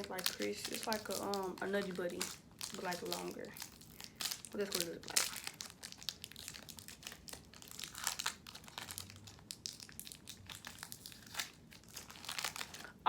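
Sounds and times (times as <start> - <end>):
wrapper crinkling: 0.0 - 13.0.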